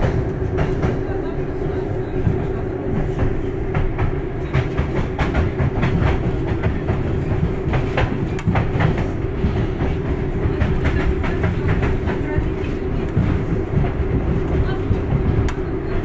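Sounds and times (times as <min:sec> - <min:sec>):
tram running rumble: 0:00.0 - 0:16.0.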